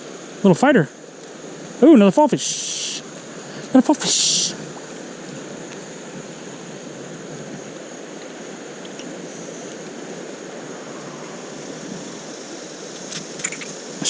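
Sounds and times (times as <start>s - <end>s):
water running over rocks: 0.0s - 14.0s.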